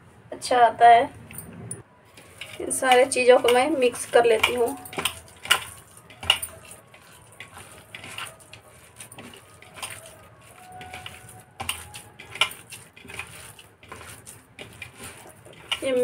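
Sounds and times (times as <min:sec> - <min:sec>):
hand kneading minced meat: 0:02.0 - 0:16.0.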